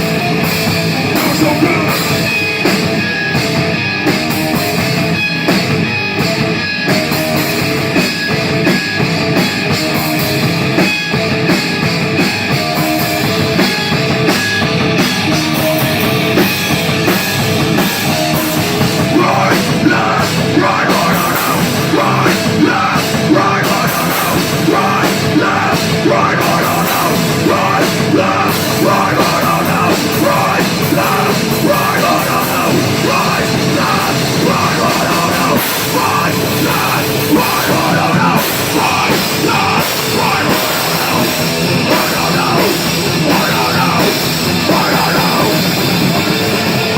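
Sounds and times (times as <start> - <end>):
rock band playing heavy rock: 0.0 - 46.9.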